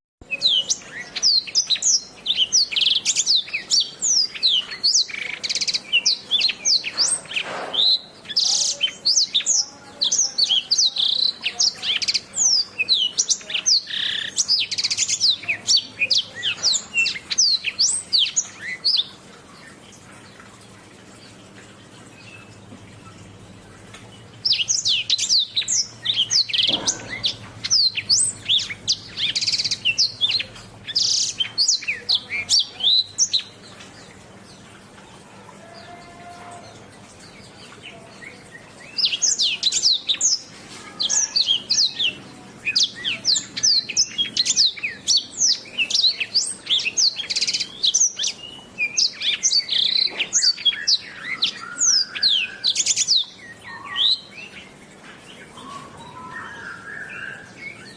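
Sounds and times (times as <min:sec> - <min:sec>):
canary singing: 0:00.2 - 0:19.2, 0:22.1 - 0:33.8, 0:35.6 - 0:54.8, 0:55.4 - 0:57.9.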